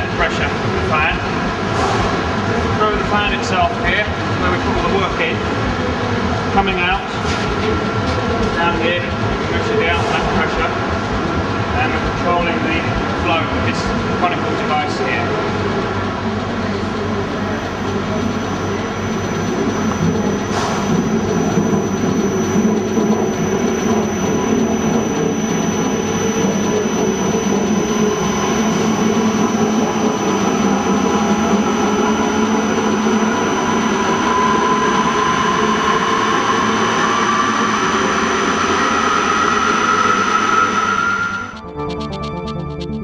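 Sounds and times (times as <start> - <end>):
industrial fan rushing air: 0.0 - 42.8
rising motor whine: 0.0 - 43.0.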